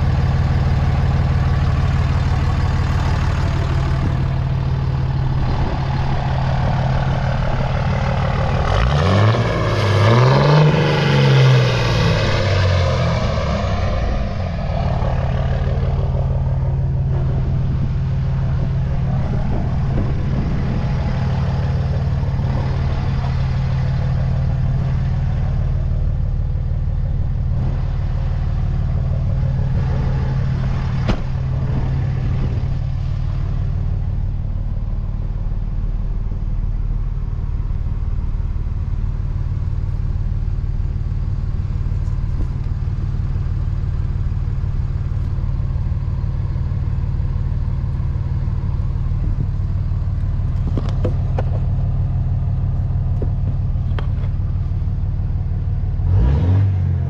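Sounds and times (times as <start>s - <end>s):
pickup truck engine idling: 0.0s - 10.2s, 11.1s - 56.3s.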